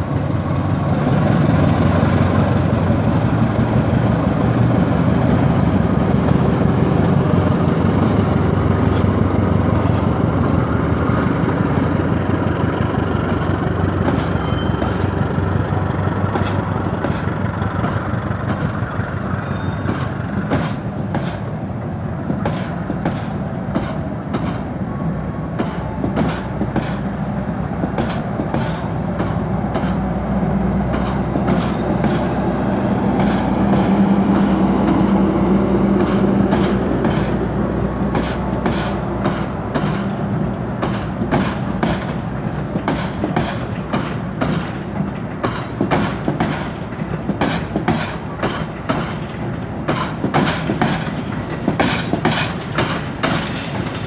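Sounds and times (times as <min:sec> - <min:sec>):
low train hum: 0:00.0 - 0:54.0
train wheels clickety-clacking: 0:00.6 - 0:21.6, 0:22.2 - 0:24.8, 0:25.5 - 0:30.2, 0:30.8 - 0:54.0.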